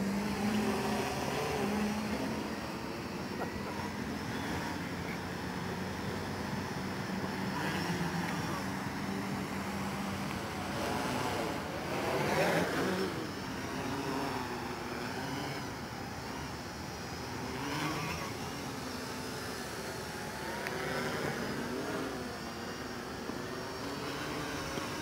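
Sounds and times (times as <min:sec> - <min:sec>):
quadcopter propellers buzzing: 0:00.0 - 0:25.0.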